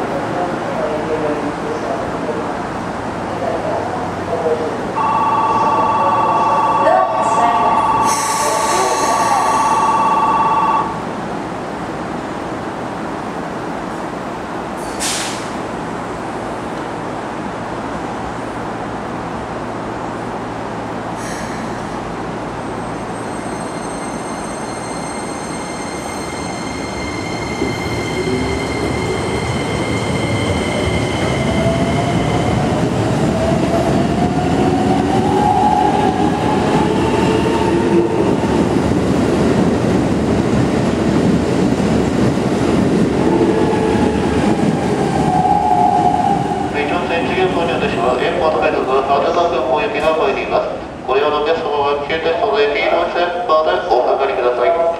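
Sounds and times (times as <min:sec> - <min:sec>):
train running noise: 0:00.0 - 0:54.9.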